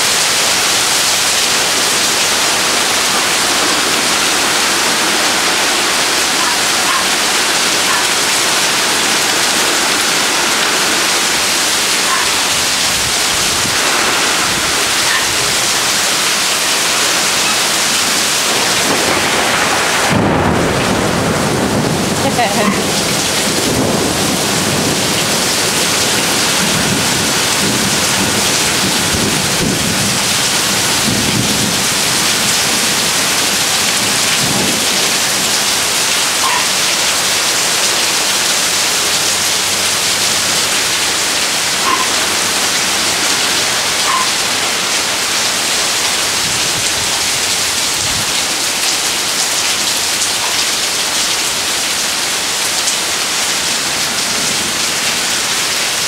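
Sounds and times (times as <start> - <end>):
heavy rain pouring: 0.0 - 56.0
thunder rumbling: 0.6 - 49.3.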